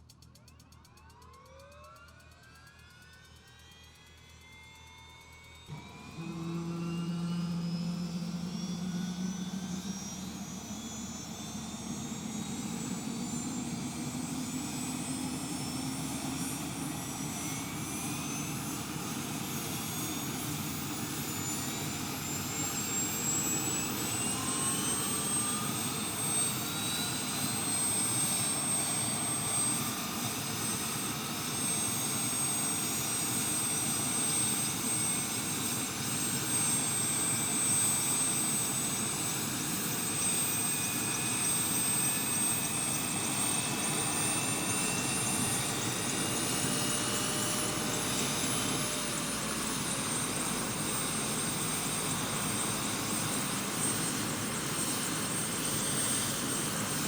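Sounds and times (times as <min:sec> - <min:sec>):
helicopter turbine winding up: 0:00.0 - 0:57.0.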